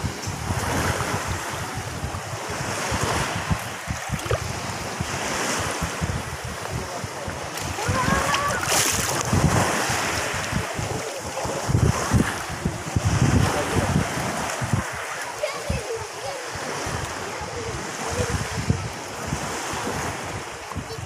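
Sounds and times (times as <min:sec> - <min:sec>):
small waves washing: 0:00.0 - 0:21.0
wind buffeting microphone: 0:00.0 - 0:21.0.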